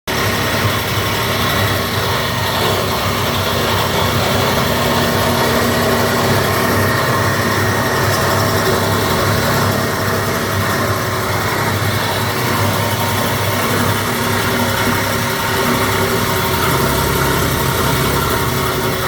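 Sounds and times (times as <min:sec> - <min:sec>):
low machine hum: 0:00.1 - 0:19.0
wire chopping machine running: 0:00.1 - 0:19.0.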